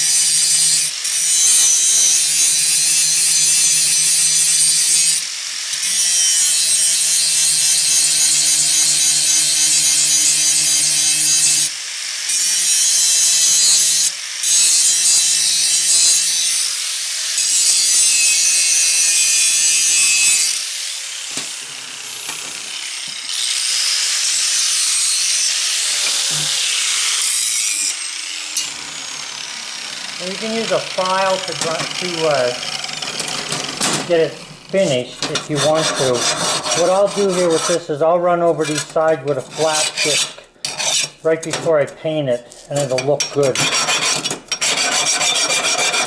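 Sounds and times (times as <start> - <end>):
angle grinder grinding steel: 0.0 - 46.0.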